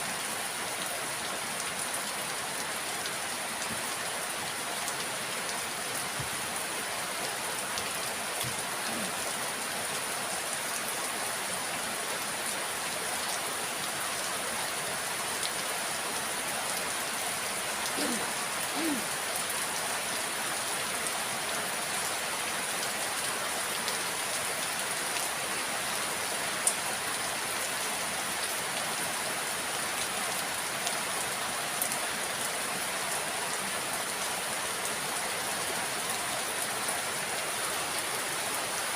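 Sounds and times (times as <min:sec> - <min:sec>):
rain pattering: 0:00.1 - 0:38.9.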